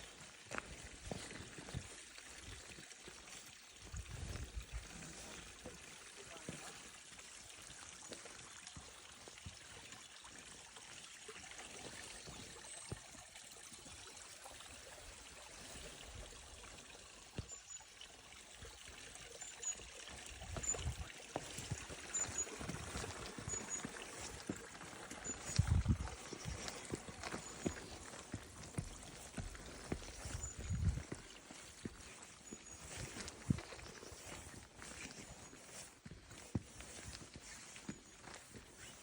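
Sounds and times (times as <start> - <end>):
small stream trickling: 0.0 - 39.0.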